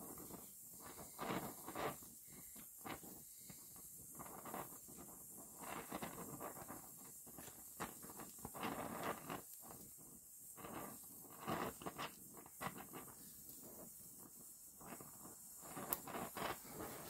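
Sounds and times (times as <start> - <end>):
welding torch flame crackling: 0.0 - 17.0.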